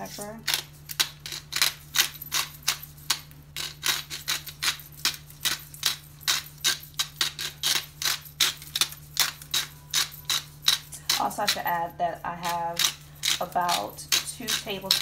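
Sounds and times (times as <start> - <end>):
steady low hum: 0.0 - 15.0
pepper grinder clicking: 0.4 - 11.8, 12.4 - 15.0.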